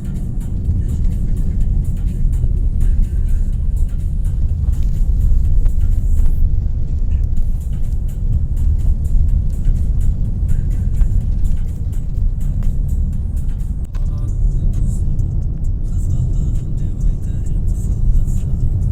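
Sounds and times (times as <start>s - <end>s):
car tyres and engine rumble: 0.0s - 18.9s.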